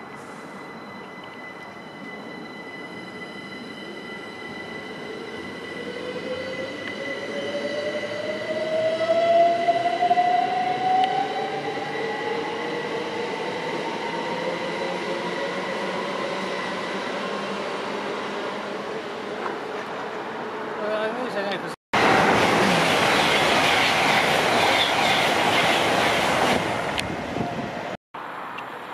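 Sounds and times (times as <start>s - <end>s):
train wheel and rail noise: 0.0s - 28.9s.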